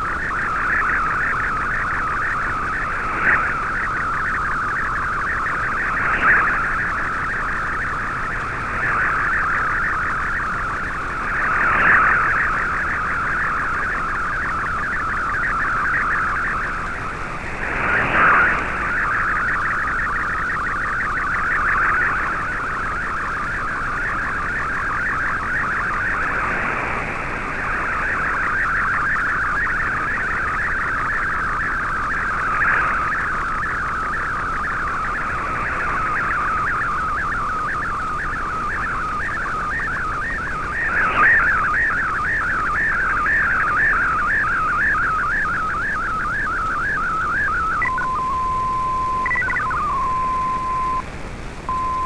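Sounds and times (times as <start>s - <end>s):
radio static: 0.0s - 52.0s
warbling digital data tones: 0.0s - 52.0s.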